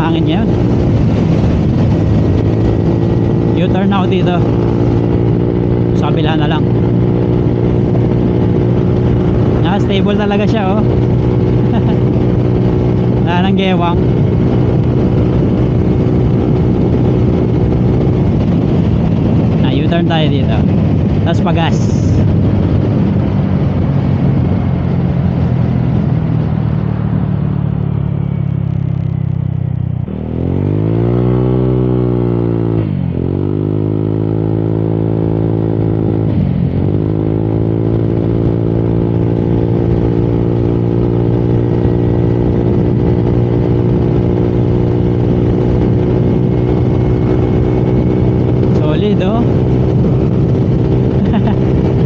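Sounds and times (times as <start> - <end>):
wind rush: 0.0 - 52.0.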